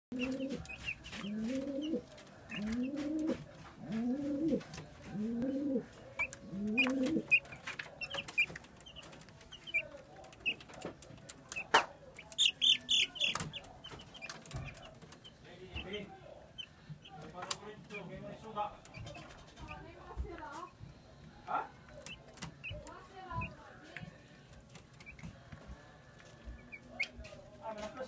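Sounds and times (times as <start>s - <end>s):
chicks peeping: 0.1s - 28.0s.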